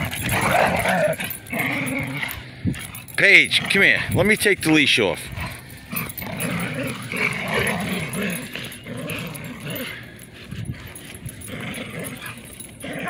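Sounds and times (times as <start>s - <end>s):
dogs play-growling: 0.0s - 4.2s, 5.2s - 13.0s.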